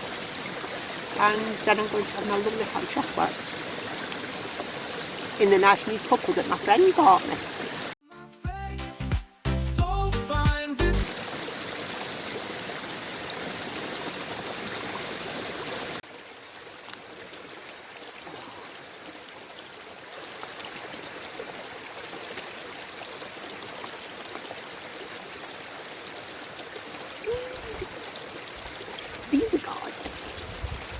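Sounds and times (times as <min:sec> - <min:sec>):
babbling brook and waterfall: 0:00.0 - 0:08.0, 0:11.0 - 0:30.9.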